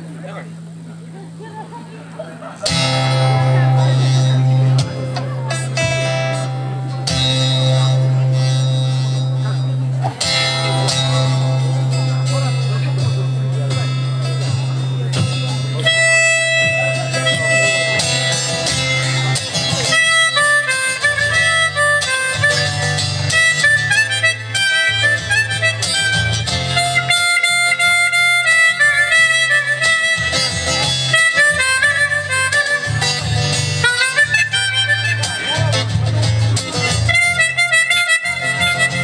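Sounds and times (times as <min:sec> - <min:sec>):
guitar accompaniment with bass: 0:00.0 - 0:39.0
harmonica melody: 0:02.7 - 0:39.0.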